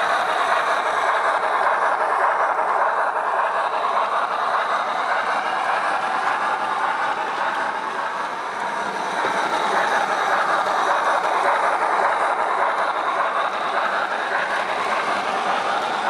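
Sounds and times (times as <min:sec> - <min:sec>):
steam engine sounds from small speaker: 0:00.0 - 0:16.0.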